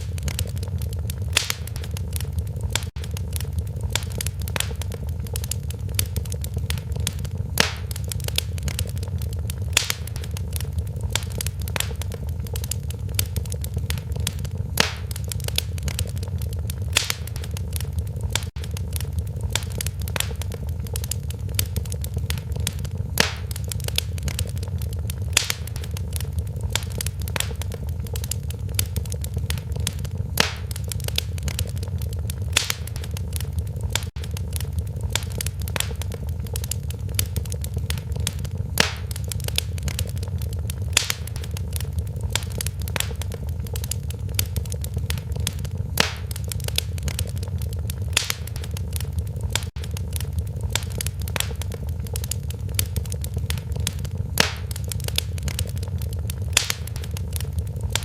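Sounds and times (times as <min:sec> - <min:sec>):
low rumble of flames: 0:00.0 - 0:58.0
sharp fire pops: 0:00.0 - 0:58.0
wood fire crackling: 0:00.0 - 0:58.0.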